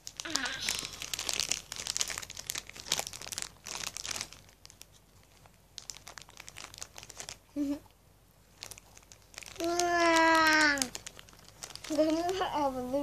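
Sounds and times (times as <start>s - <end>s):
crackers crunching: 0.0s - 7.4s, 8.5s - 12.4s.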